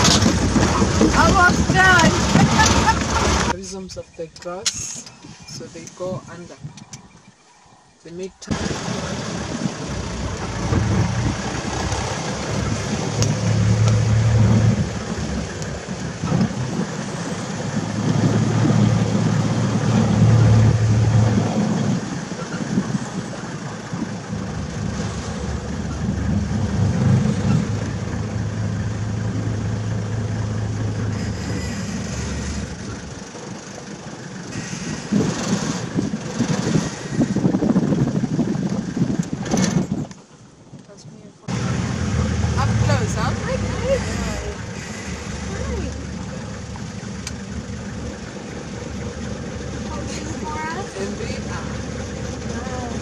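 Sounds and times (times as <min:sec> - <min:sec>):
vehicle engine running: 0:00.0 - 0:03.6, 0:08.5 - 0:39.9, 0:41.5 - 0:53.0
wind noise: 0:00.0 - 0:33.2, 0:34.4 - 0:45.9
road rumble: 0:00.0 - 0:53.0.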